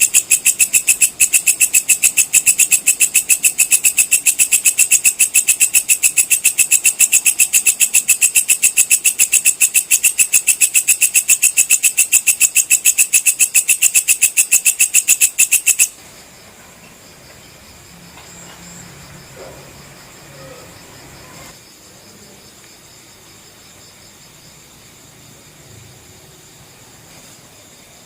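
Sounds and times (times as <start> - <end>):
insect chirping: 0.0 - 28.0.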